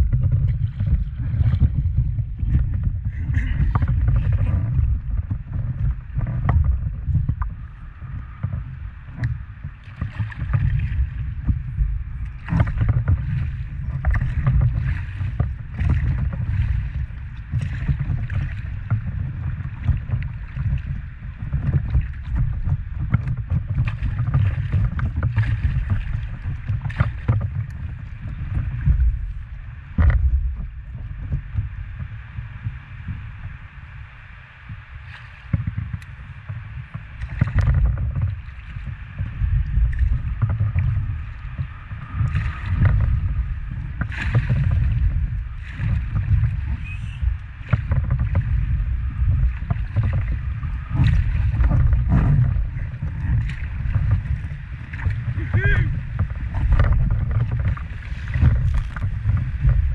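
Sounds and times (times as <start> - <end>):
constant low rumble: 0.0 - 59.9
water lapping against paddleboard: 0.0 - 59.9.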